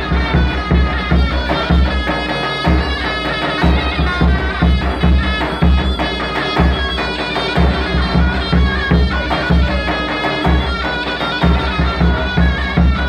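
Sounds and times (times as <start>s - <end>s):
heavy drum beat: 0.0s - 13.0s
shrill reed-pipe melody: 0.0s - 13.0s.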